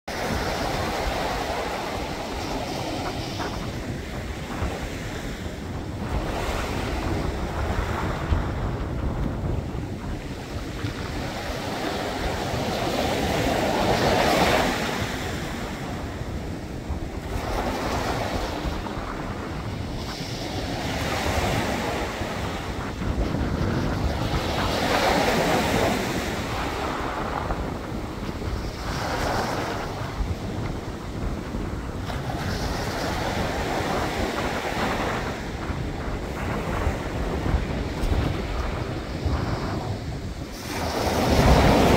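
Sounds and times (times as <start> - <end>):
waves washing onto pebbles: 0.1 - 41.9
wind rumble on microphone: 0.1 - 41.9.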